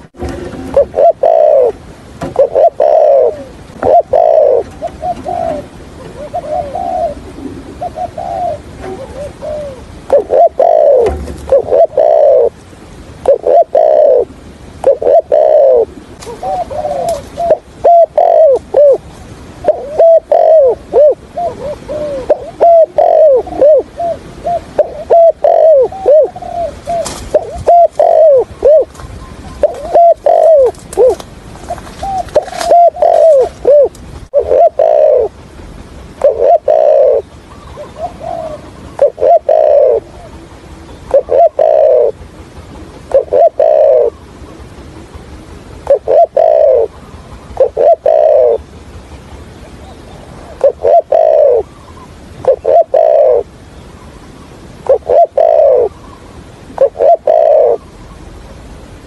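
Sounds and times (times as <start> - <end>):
dove cooing: 0.0 - 12.6, 13.2 - 35.5, 36.1 - 48.9, 49.6 - 58.4.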